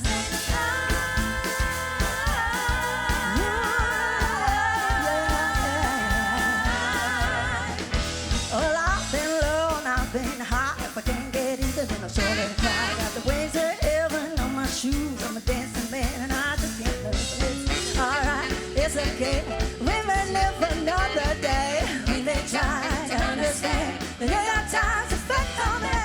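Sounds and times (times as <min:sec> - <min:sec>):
drum kit beat: 0:00.0 - 0:26.0
live band playing upbeat song: 0:00.0 - 0:26.0.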